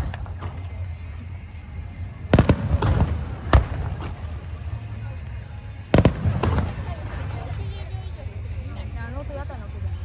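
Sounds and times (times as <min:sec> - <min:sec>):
fireworks bursting with echo: 0:00.0 - 0:09.1.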